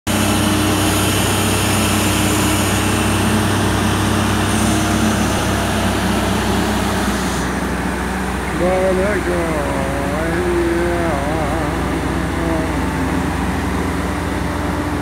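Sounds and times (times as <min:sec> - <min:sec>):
crane diesel engine running: 0:00.1 - 0:15.0.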